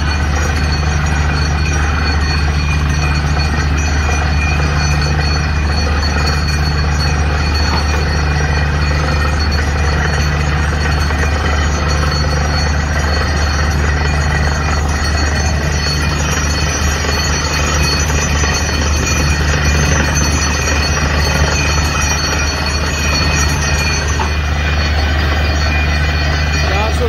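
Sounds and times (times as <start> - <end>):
deep hum: 0.0 - 27.0
drilling rig drone: 0.0 - 27.0.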